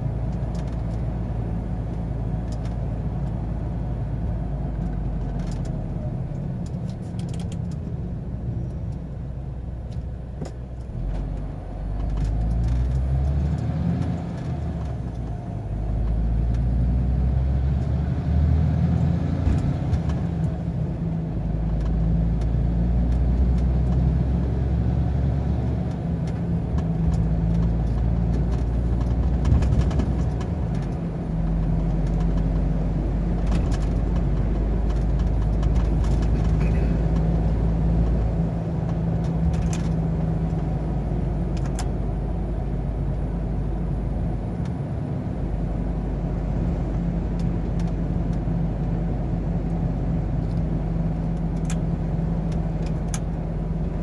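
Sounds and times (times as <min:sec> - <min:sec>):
road noise: 0:00.0 - 0:54.0
truck engine drone: 0:00.0 - 0:54.0.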